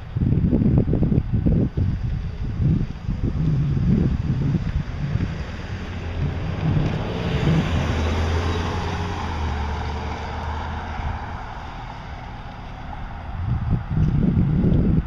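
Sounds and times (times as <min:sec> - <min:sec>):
wind on microphone: 0:00.0 - 0:15.0
vehicle driving past: 0:01.9 - 0:14.5.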